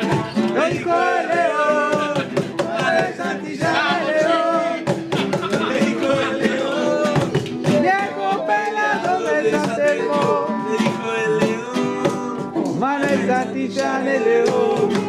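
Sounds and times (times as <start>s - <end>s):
acoustic guitar strumming: 0.0s - 15.0s
cajon beat: 0.0s - 15.0s
men singing: 0.0s - 15.0s.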